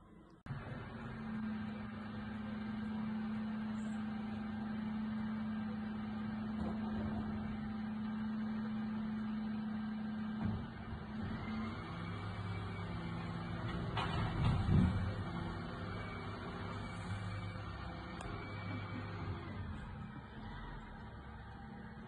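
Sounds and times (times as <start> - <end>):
garbage truck humming: 0.0 - 22.0.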